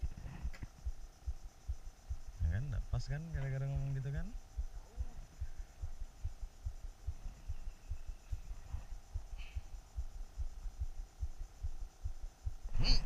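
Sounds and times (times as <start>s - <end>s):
low dull thumps: 0.0s - 13.0s.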